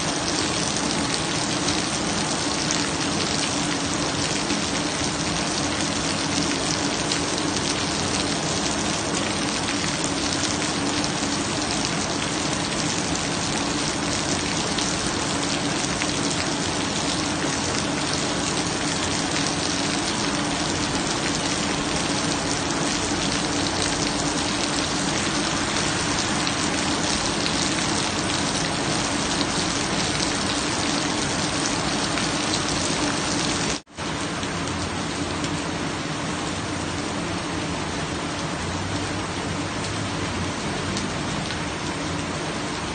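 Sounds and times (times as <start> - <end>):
heavy rain pattering: 0.0 - 42.9.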